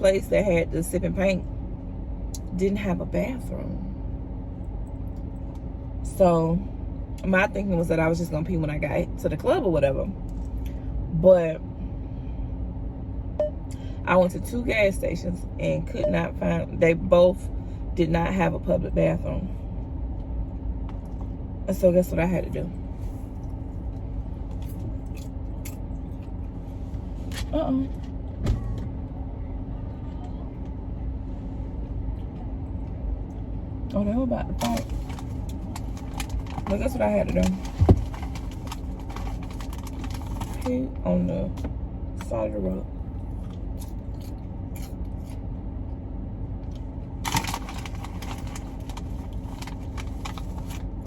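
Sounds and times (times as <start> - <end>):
low rumble inside car: 0.0 - 51.0.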